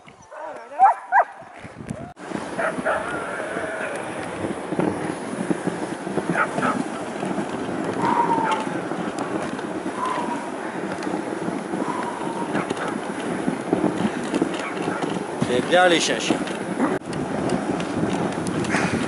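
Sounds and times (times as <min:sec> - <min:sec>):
sled runners hissing on snow: 0:02.2 - 0:19.0.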